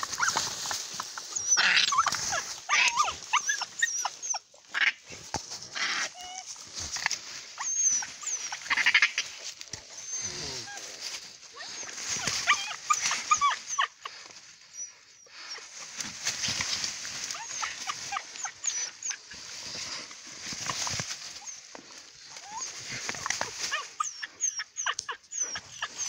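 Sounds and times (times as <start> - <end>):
dogs whining and yelping: 0.0 - 26.0
rustling in grass: 0.0 - 26.0.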